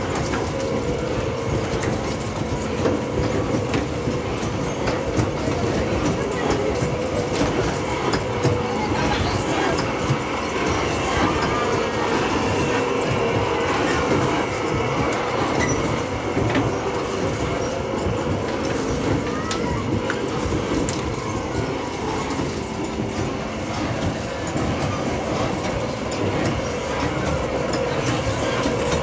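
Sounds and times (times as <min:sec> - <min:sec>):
carousel rumble and rattle: 0:00.0 - 0:29.0.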